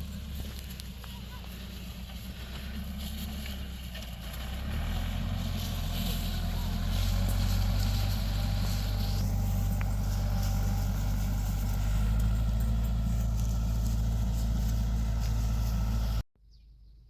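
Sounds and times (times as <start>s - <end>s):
engine running: 0.0s - 16.2s.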